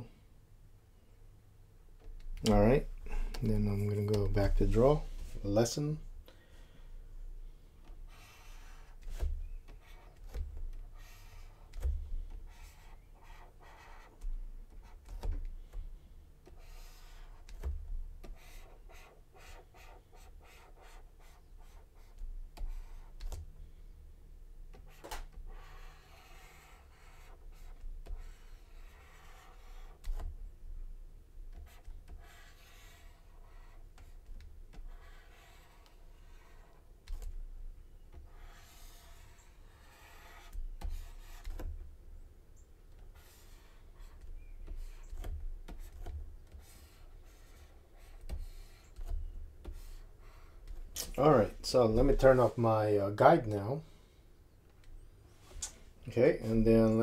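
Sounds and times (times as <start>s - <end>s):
stylus scratching and tapping: 2.0s - 5.7s, 7.8s - 23.5s, 24.7s - 30.4s, 31.5s - 41.9s, 42.6s - 52.8s.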